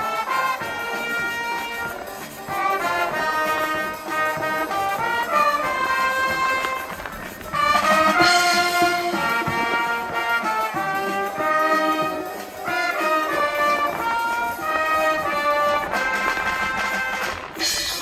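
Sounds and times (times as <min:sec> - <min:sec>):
trumpets and trombones: 0:00.0 - 0:18.0
wind band playing a melody: 0:00.0 - 0:18.0.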